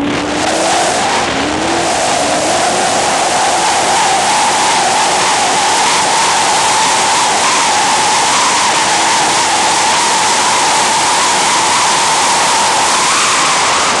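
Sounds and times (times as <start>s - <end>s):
speedboat engine: 0.0s - 14.0s
water rushing: 0.0s - 14.0s.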